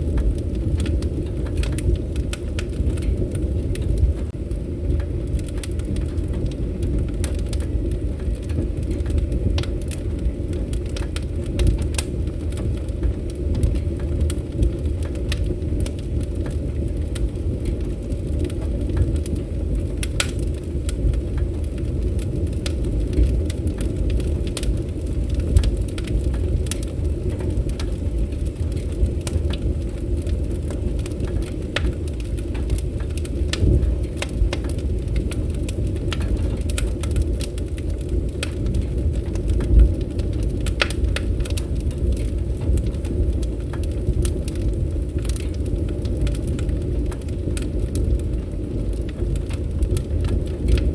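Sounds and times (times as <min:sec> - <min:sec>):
campfire crackling: 0:00.0 - 0:50.9
fire popping and snapping: 0:00.0 - 0:50.9.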